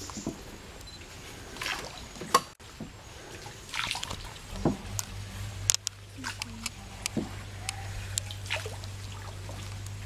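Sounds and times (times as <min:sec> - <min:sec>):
low steady hum: 0:00.0 - 0:10.0
water splashing and dripping: 0:00.0 - 0:10.0
oars dipping into water: 0:00.1 - 0:10.0.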